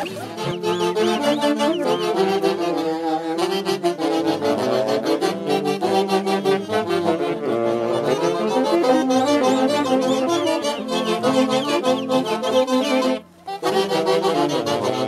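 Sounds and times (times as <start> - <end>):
folk band playing dance tune: 0.0 - 15.0.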